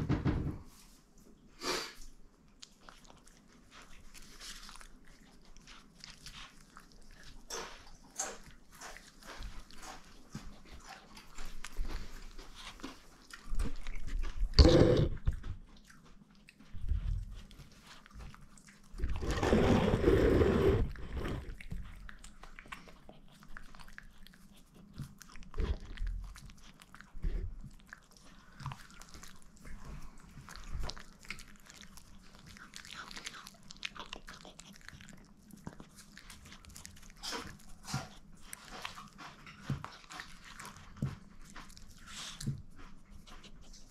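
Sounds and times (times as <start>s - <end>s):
dog chewing and crunching: 2.1s - 43.9s.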